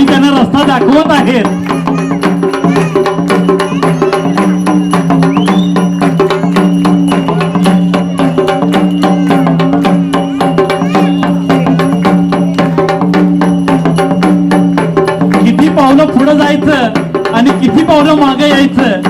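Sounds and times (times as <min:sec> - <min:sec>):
folk drums beaten with sticks: 0:00.0 - 0:19.0.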